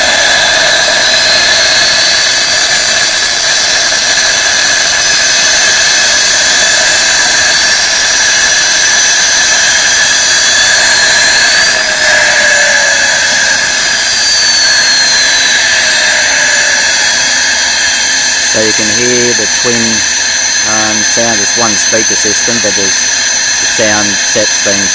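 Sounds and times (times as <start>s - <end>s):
jet turbine hiss and whine: 0.0s - 24.9s.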